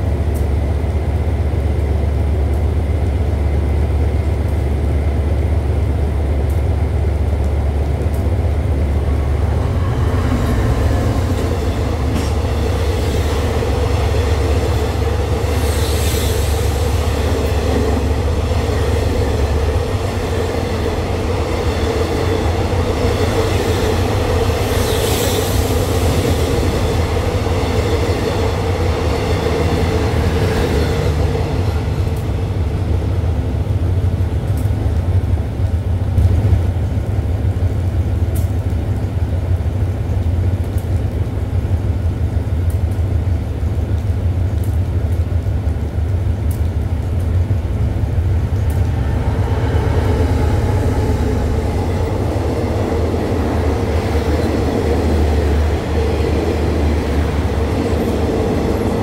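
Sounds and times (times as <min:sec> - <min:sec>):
diesel locomotive engine rumble: 0:00.0 - 0:59.0
train wheels rumbling on rails: 0:00.0 - 0:59.0.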